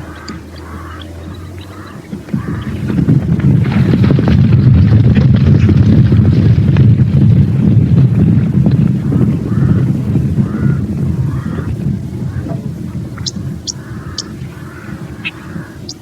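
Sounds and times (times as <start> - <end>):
loud low rumble: 0.0 - 15.8.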